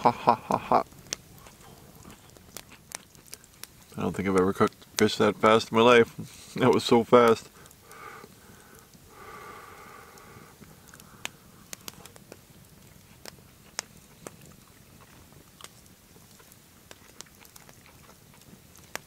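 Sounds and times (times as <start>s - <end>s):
man chewing crunchy food: 0.0s - 4.9s, 7.7s - 19.0s.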